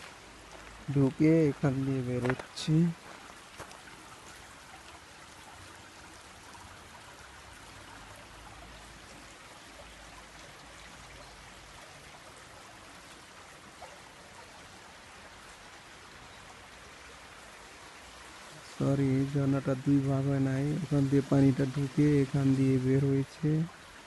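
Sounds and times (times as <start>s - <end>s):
rushing water of cascade: 0.0s - 24.0s.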